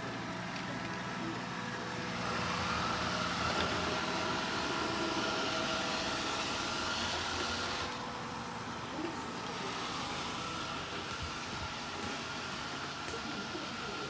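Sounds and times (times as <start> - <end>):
robot vacuum cleaner whirring: 0.0 - 14.0.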